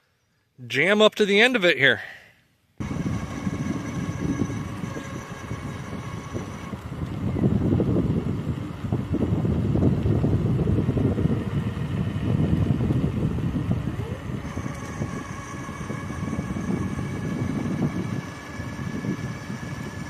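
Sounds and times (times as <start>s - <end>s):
electric motor whine: 2.8s - 20.0s
wind buffeting microphone: 2.8s - 20.0s.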